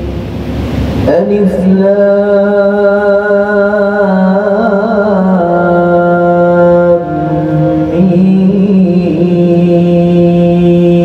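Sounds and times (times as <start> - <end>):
man chanting recitation: 1.0 - 11.0.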